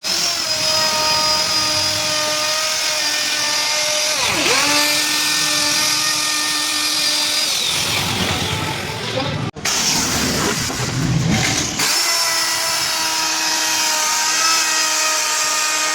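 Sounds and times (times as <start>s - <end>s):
rotary carving tool whining: 0.0s - 10.0s, 11.4s - 15.9s.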